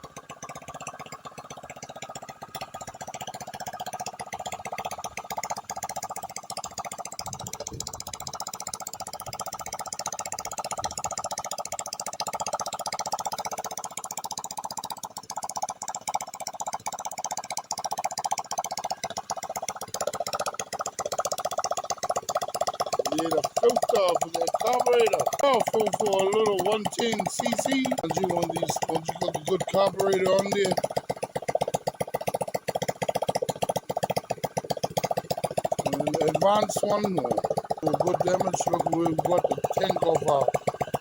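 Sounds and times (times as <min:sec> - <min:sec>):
small motorcycle engine running: 0:00.0 - 0:41.0.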